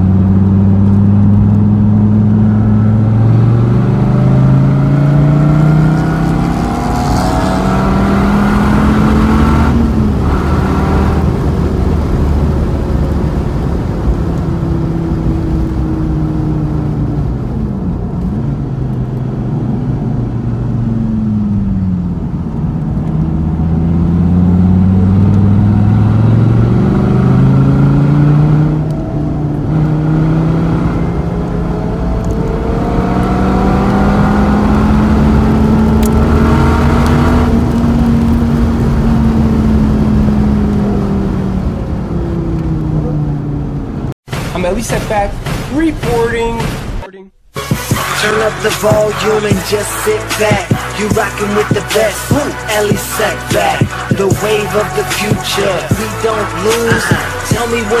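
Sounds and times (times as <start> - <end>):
sports car engine revving: 0.0 - 44.2, 46.8 - 58.0.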